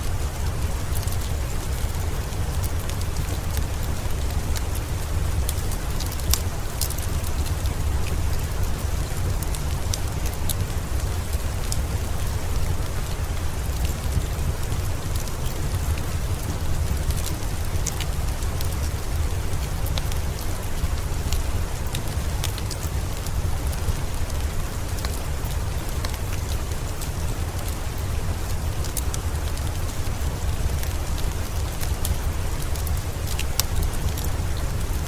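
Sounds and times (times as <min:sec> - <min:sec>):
fireplace crackling and popping: 0:00.0 - 0:35.0
steady rain: 0:00.0 - 0:35.0.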